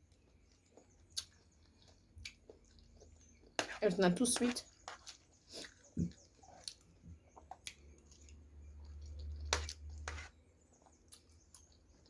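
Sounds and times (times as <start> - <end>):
chewing: 0.0 - 3.8, 4.4 - 12.0.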